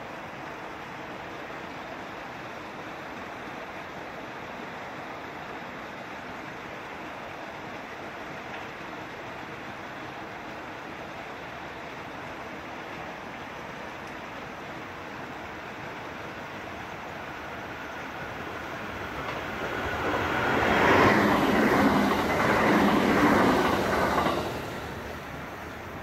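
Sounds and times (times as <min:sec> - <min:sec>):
electric train passing: 0:00.7 - 0:26.0.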